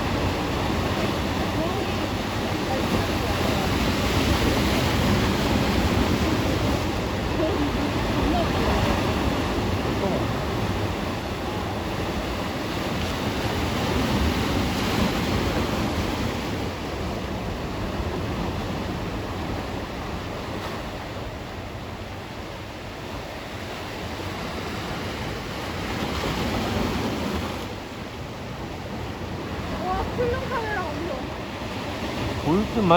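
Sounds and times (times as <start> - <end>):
sea surf washing ashore: 0.0 - 32.9
wind buffeting microphone: 0.0 - 32.9.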